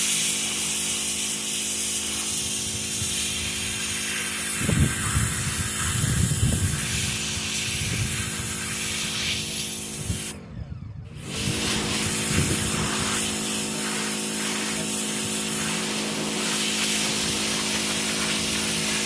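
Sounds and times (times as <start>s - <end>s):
water jet hissing: 0.0s - 10.4s, 11.3s - 19.0s
pressure washer motor hum: 0.0s - 19.0s.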